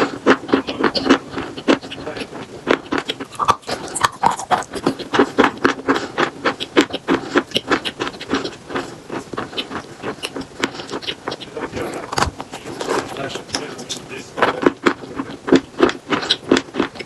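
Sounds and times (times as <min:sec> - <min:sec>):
chalk crunching while chewed: 0:00.0 - 0:17.0.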